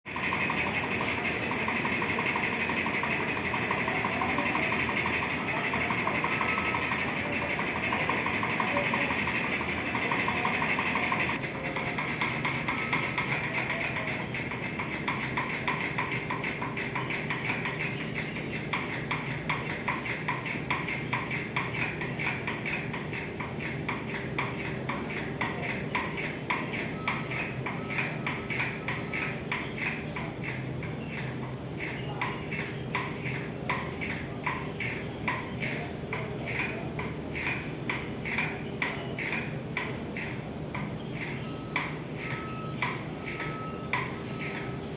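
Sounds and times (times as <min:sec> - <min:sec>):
ceiling fan squeaking and rattling: 0:00.0 - 0:44.9.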